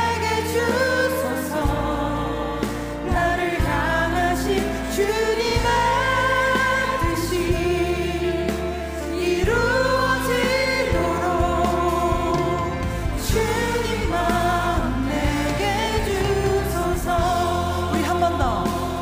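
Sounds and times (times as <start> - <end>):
band with bass and drums: 0.0 - 19.0
voices singing worship song: 0.0 - 19.0.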